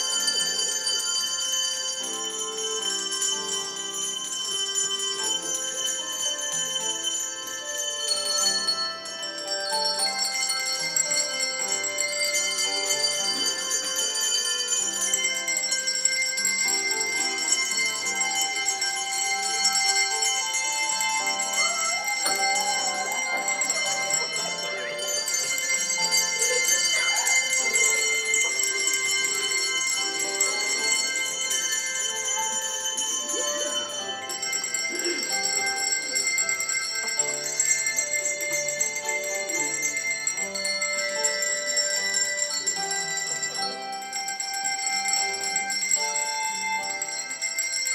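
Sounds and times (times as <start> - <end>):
handbells ringing a tune: 0.0 - 47.9.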